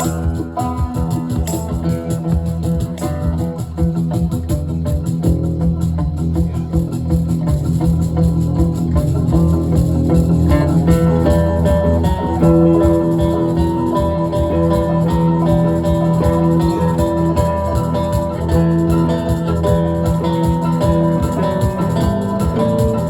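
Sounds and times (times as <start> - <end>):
lead guitar line: 0.0 - 23.0
live rock band playing: 0.0 - 23.0.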